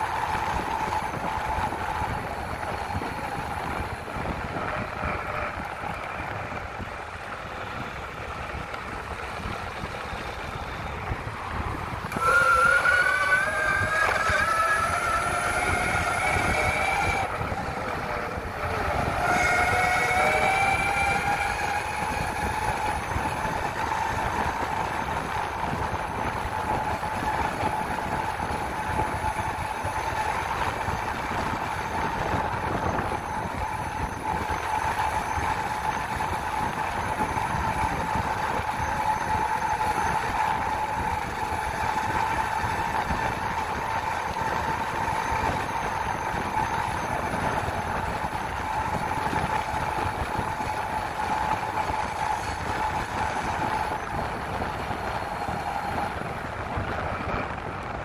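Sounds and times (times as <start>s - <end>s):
electric motors whining: 0.0s - 58.0s
rush of noise: 0.0s - 58.0s.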